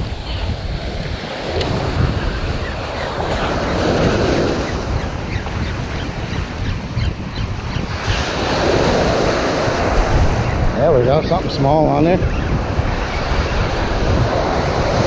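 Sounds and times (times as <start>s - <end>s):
surf washing onto beach: 0.0s - 6.9s, 7.8s - 15.0s
wind buffeting microphone: 0.0s - 15.0s.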